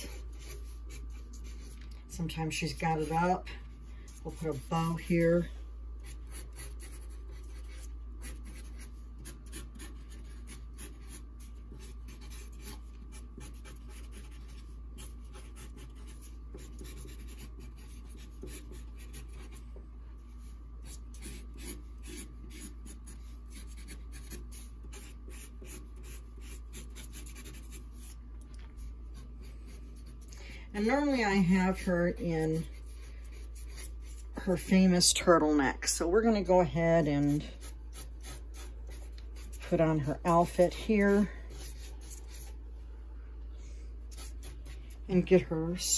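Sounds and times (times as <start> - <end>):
marker scratching on paper: 0.0 - 3.4, 4.1 - 19.6, 20.2 - 28.2, 28.8 - 34.9, 37.0 - 42.6, 44.1 - 45.4
steady low hum: 0.0 - 45.9.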